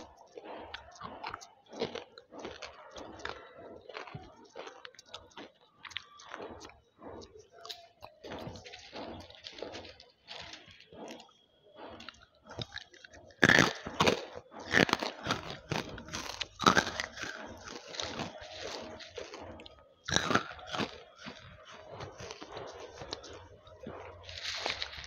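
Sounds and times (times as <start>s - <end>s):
crisp chewing crunches: 0.0s - 25.0s.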